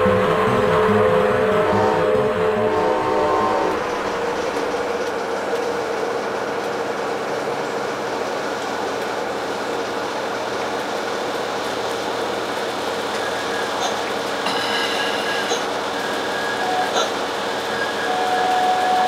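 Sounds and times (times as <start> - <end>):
railcar running rumble: 0.0 - 19.0.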